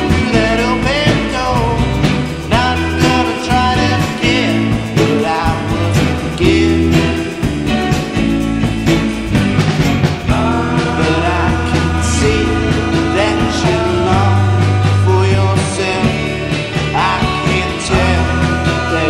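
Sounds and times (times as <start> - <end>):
rock song with singing: 0.0 - 19.0.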